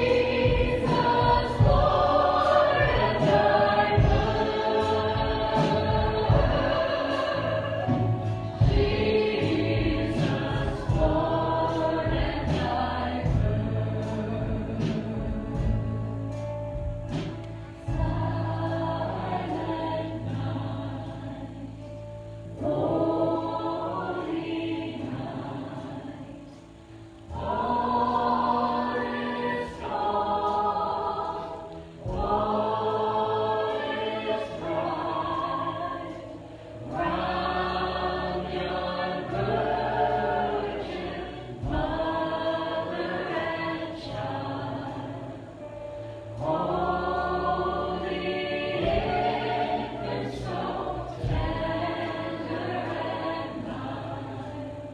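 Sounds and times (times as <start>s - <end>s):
sustained low instrumental bass: 0.0s - 54.9s
voices singing together: 0.0s - 54.9s.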